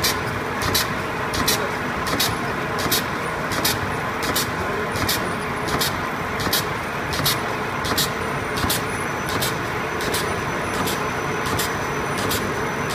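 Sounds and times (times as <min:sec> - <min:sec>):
paper bag machine running: 0:00.0 - 0:12.9.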